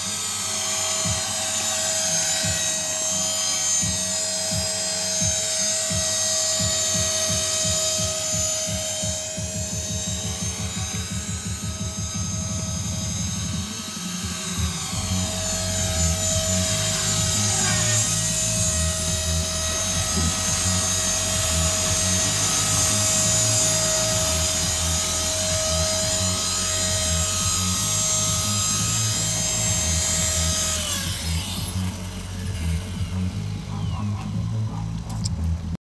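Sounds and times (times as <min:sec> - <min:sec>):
high motor whine: 0:00.0 - 0:35.8
rotor low pulsing: 0:00.0 - 0:35.8.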